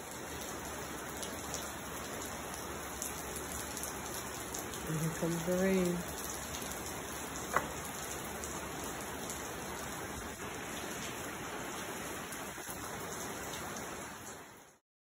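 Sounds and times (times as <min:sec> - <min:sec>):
rain falling: 0:00.0 - 0:14.8.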